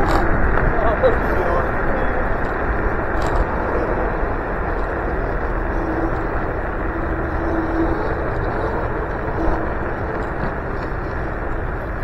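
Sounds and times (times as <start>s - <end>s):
faint steady whine: 0.0s - 12.0s
wind rush and road noise: 0.0s - 12.0s.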